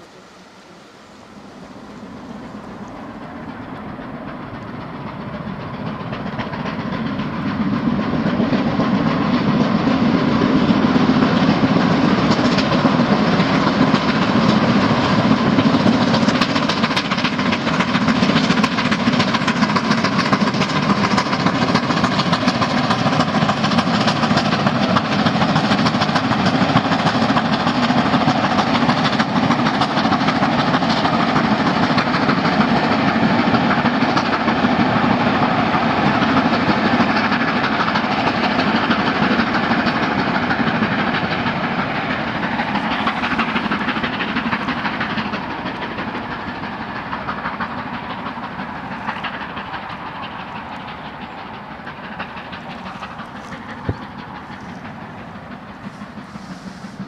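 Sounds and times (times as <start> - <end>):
steam locomotive hauling train: 0.0 - 57.0
wheels clicking over rails: 0.0 - 57.0.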